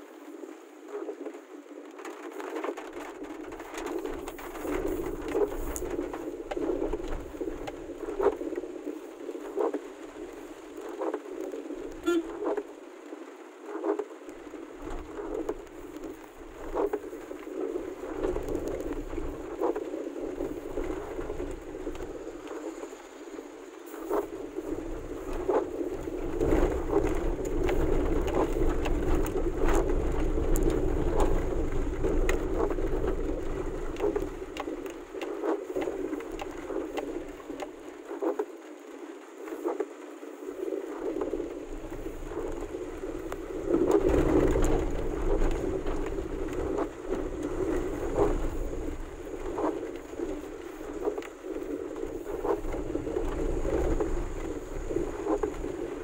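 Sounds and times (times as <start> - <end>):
heavy rain on vehicle roof: 0.0 - 56.0.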